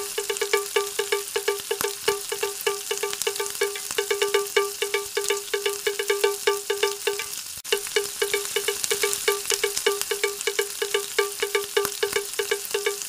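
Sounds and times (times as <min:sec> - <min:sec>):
bright chiming melody: 0:00.0 - 0:13.0.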